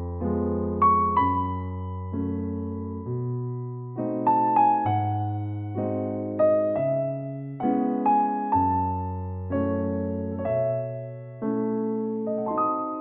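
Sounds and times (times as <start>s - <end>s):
gentle electric piano piece: 0.0s - 13.0s.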